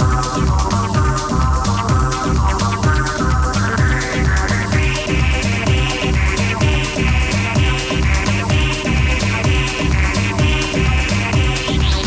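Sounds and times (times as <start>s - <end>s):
hi-hats ticking: 0.0s - 12.0s
house music: 0.0s - 12.0s
kick drum: 0.0s - 12.0s.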